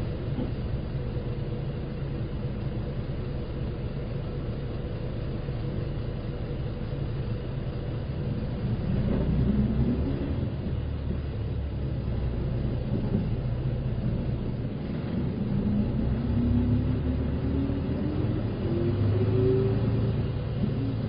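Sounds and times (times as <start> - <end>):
bus engine rumbling: 0.0 - 21.0.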